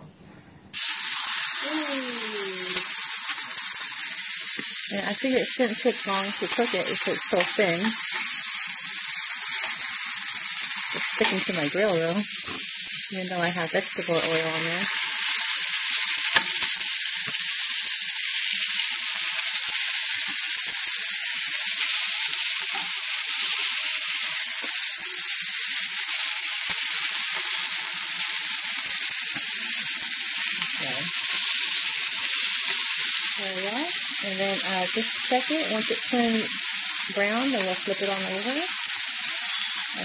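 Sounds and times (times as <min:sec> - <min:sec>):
steaks sizzling on grill pan: 0:00.7 - 0:40.0.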